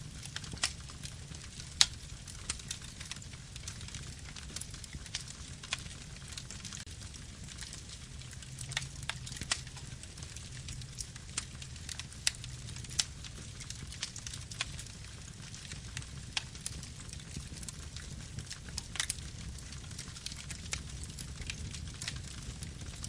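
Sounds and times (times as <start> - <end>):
wood campfire crackling: 0.0 - 23.0.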